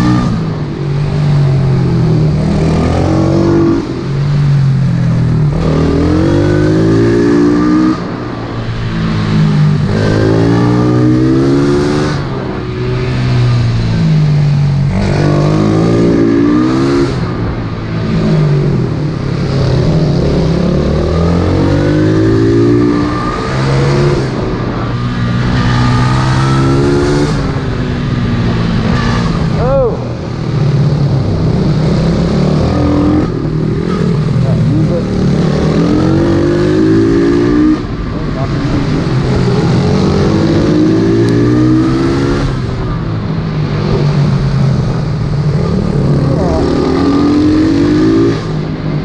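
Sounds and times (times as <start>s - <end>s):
motorbike engine revving: 0.0s - 43.0s.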